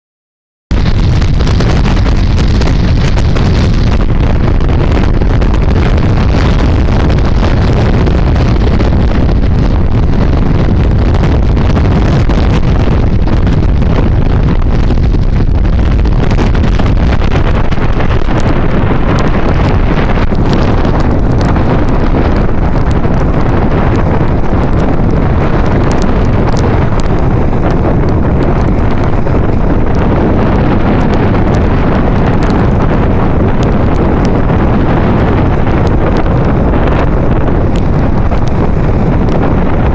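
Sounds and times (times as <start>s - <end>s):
wind buffeting microphone: 0.7s - 39.9s.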